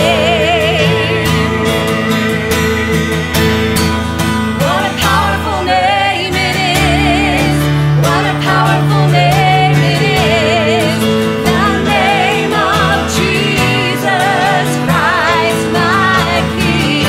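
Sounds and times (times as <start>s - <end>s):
woman singing with vibrato: 0.0s - 3.8s, 4.6s - 17.0s
electronic keyboard: 0.0s - 17.0s
strummed acoustic guitar: 0.0s - 17.0s.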